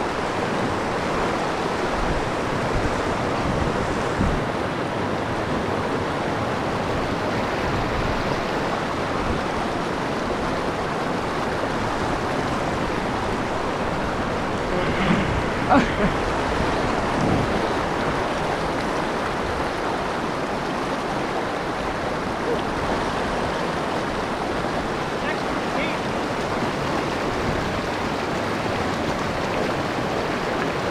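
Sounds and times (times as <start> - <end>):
mountain stream rushing: 0.0 - 30.9.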